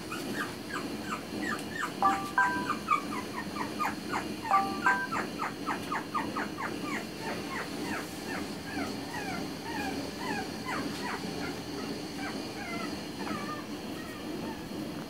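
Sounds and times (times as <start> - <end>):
puppy whimpering: 0.0 - 14.8.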